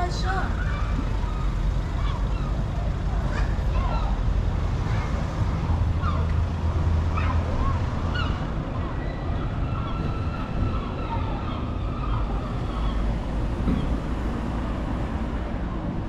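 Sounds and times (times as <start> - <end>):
street traffic rumbling: 0.0 - 16.0.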